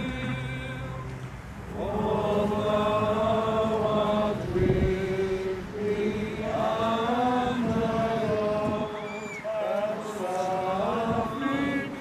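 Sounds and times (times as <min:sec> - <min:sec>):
crowd singing a hymn: 0:00.0 - 0:12.0.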